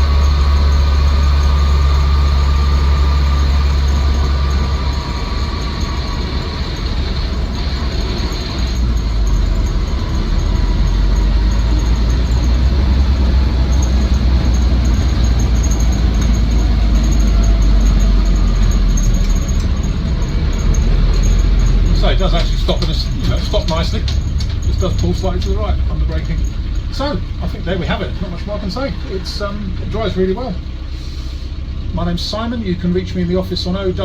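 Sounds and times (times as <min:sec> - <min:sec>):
engine running low rumble: 0:00.0 - 0:34.0
road noise: 0:00.0 - 0:34.0.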